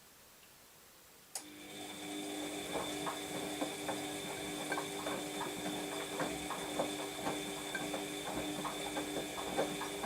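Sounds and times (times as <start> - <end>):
washing machine running hum: 1.4 - 10.0.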